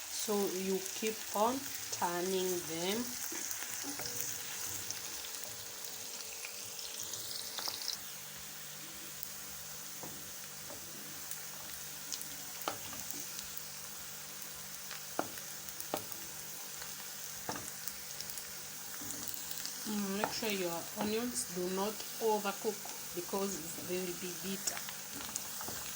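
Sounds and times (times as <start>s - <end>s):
onions sizzling in hot oil: 0.0s - 25.9s.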